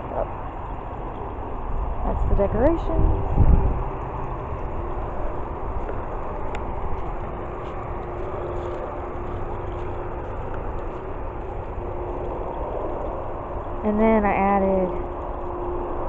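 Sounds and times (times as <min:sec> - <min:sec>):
low rumble and hiss: 0:00.0 - 0:16.0.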